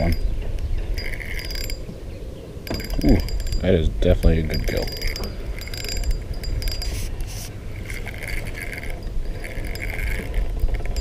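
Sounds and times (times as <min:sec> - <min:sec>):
fishing reel gears whirring: 0:00.0 - 0:11.0
wind rumble on microphone: 0:00.0 - 0:11.0.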